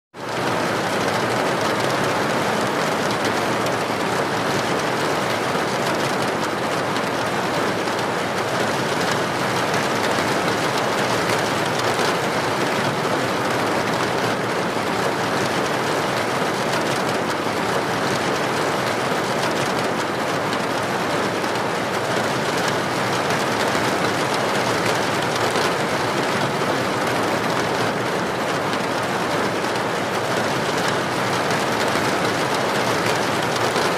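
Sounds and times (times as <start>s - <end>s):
steady soft rain: 0.2s - 33.9s.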